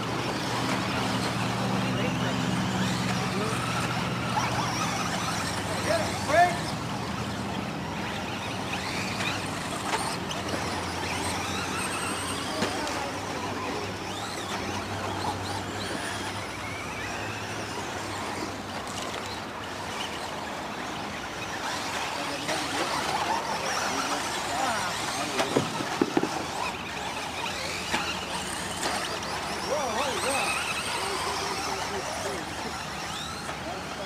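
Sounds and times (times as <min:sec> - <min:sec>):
rc car motors whining: 0:00.0 - 0:34.0.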